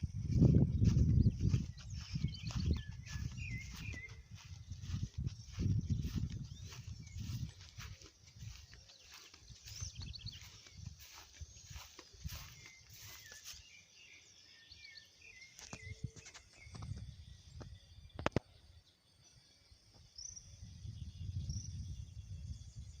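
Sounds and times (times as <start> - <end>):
wind noise on microphone: 0.0 - 13.7, 15.6 - 18.8, 19.9 - 23.0
small birds chirping: 0.0 - 23.0.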